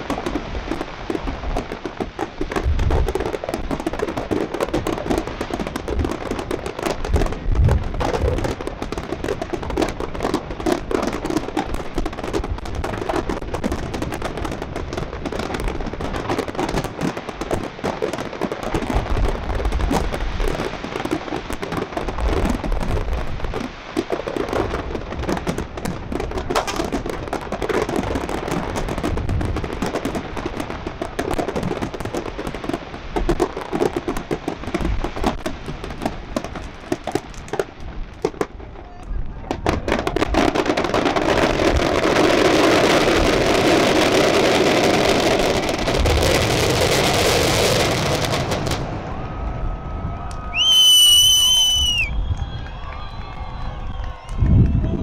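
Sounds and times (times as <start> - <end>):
fireworks bursting and crackling: 0.0 - 55.0
low firework booms: 0.0 - 55.0.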